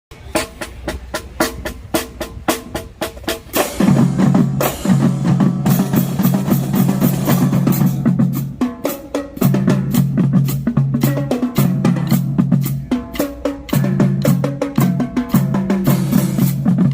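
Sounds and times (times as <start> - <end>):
heavy low drums: 0.1 - 16.9
marching drumline playing: 0.1 - 16.9.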